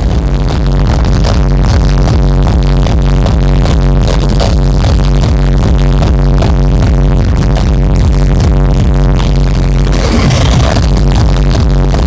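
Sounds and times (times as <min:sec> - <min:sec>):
loud hard dance music: 0:00.0 - 0:12.0
pounding kick-drum beat: 0:00.0 - 0:12.0.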